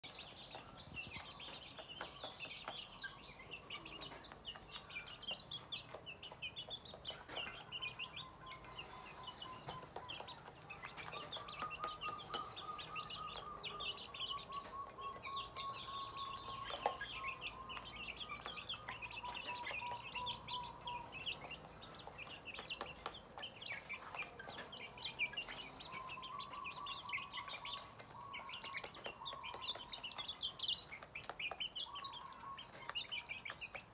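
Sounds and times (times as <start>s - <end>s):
beaks pecking in metal bowl: 0.0s - 33.9s
chicks peeping: 0.0s - 33.9s.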